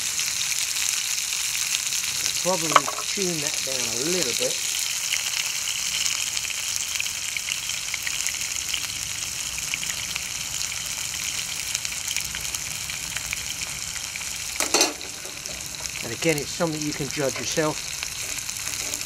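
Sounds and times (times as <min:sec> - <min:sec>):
fish frying in oil: 0:00.0 - 0:19.0
oil crackles: 0:00.0 - 0:19.0.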